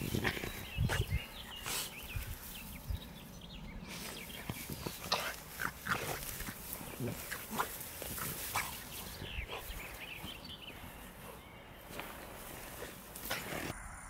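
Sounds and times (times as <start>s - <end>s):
grass rustling: 0.0s - 13.9s.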